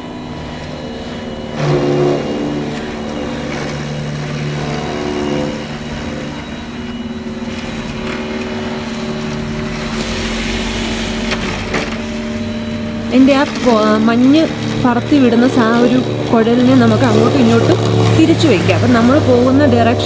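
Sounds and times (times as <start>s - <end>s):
snow blower motor humming: 0.0s - 20.0s.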